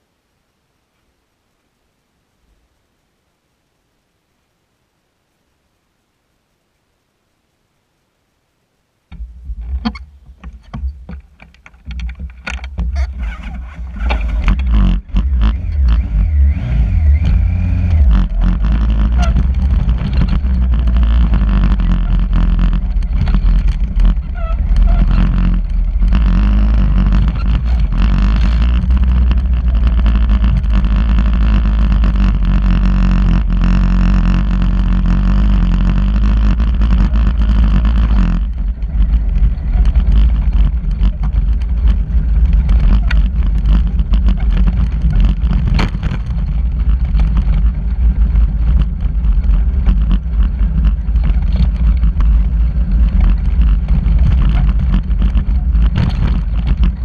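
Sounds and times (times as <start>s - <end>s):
off-road vehicle engine driving: 9.2s - 57.0s.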